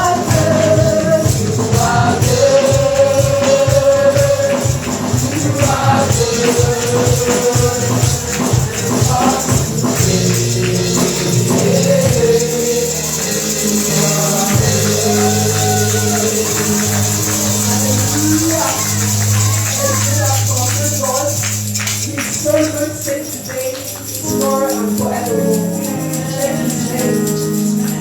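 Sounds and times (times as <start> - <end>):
gospel singing: 0.0 - 28.0
tambourine rhythm: 0.0 - 28.0.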